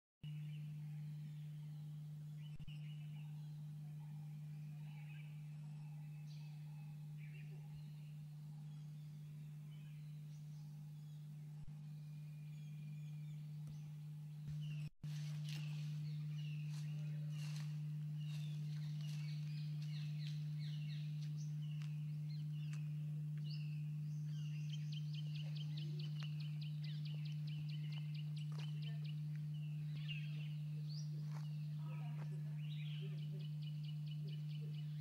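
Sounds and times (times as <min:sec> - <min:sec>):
low hum: 0:00.2 - 0:35.0.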